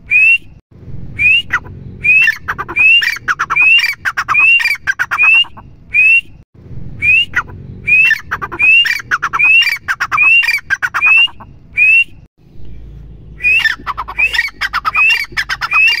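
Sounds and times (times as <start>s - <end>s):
francolin calling: 1.2s - 6.2s, 7.0s - 12.1s, 13.4s - 16.0s.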